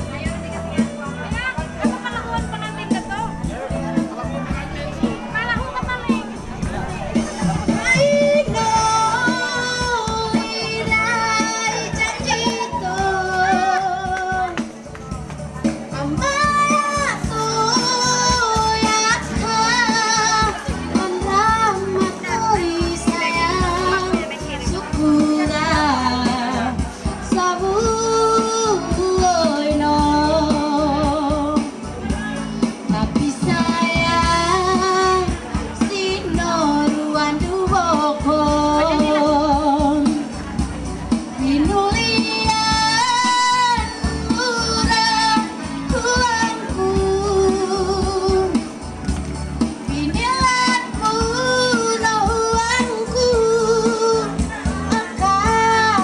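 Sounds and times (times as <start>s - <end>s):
karaoke backing track: 0.0s - 56.0s
woman singing into a microphone: 0.0s - 56.0s.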